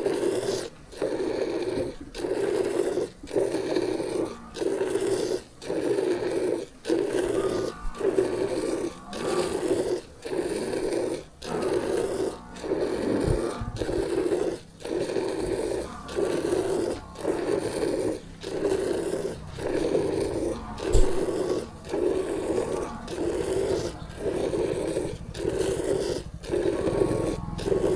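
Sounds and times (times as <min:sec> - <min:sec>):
milk squirting into a pail: 0:00.0 - 0:27.9.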